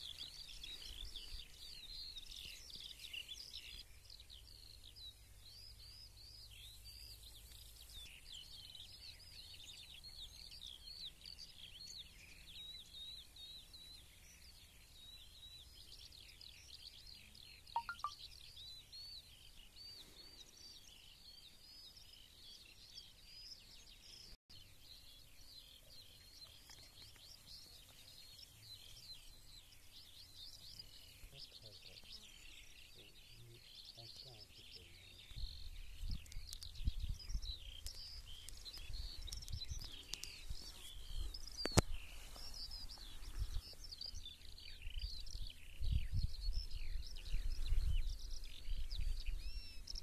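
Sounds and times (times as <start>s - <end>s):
small birds chirping and trilling: 0.0s - 50.0s.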